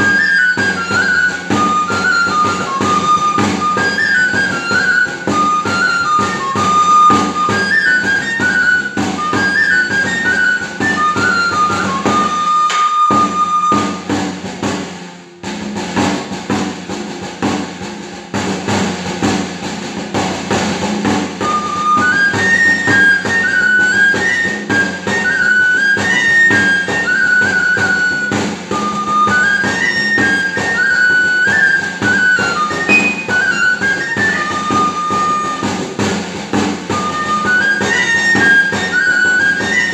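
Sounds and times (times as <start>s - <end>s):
shrill pipe melody: 0.0s - 14.4s, 21.3s - 39.9s
drum strokes: 0.0s - 39.9s.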